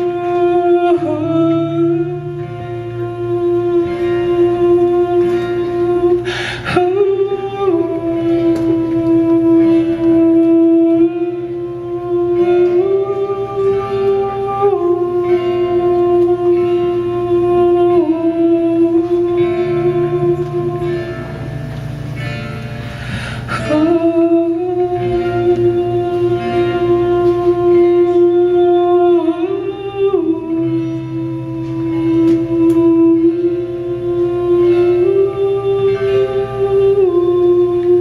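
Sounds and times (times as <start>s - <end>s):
held melody line: 0.0s - 38.0s
strummed guitar: 0.0s - 38.0s.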